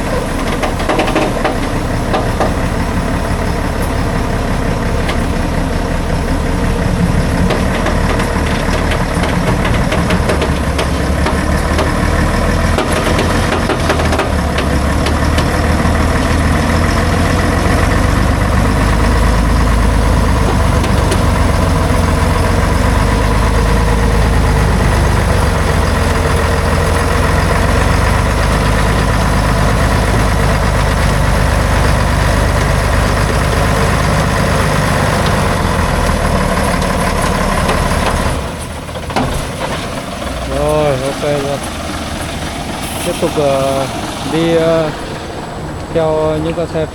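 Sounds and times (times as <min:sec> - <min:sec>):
knocks and rattles: 0:00.0 - 0:04.0, 0:07.0 - 0:44.4
diesel truck engine running: 0:00.0 - 0:46.9.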